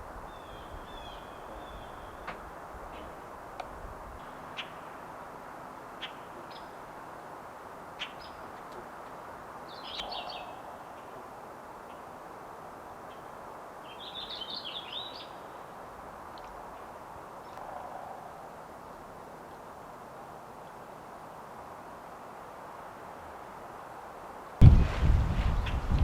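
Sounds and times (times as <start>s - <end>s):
songbirds chirping: 0.0s - 22.6s.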